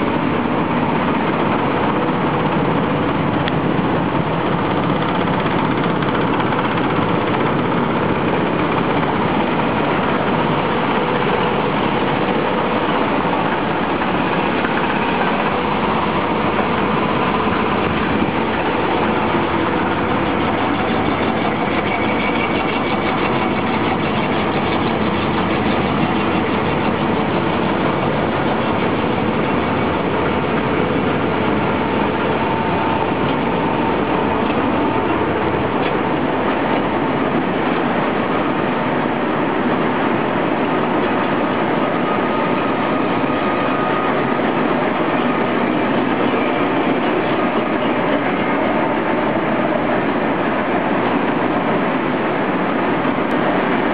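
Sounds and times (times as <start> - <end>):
grain cleaner and conveyors running: 0.0 - 53.9.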